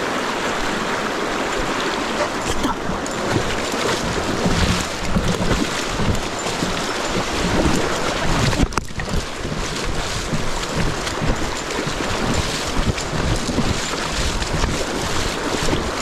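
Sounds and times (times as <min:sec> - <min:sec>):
river rapid rushing: 0:00.0 - 0:16.0
wind buffeting microphone: 0:01.6 - 0:16.0.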